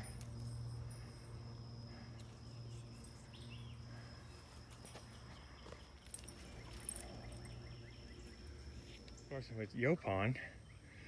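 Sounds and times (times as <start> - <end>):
high insect trill: 0.0 - 11.0.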